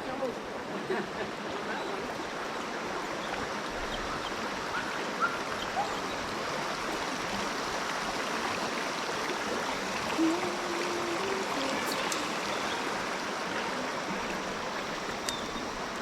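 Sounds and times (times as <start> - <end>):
river rushing over rocks: 1.3 - 16.0.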